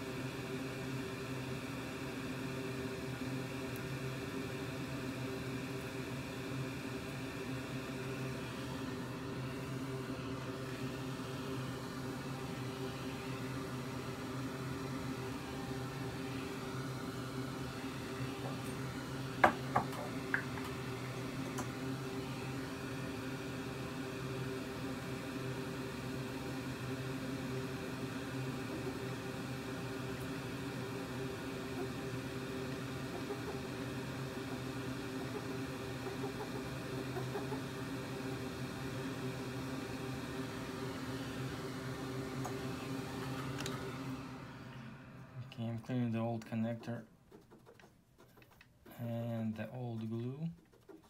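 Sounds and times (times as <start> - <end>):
electrical hum of bench equipment: 0.0 - 51.0.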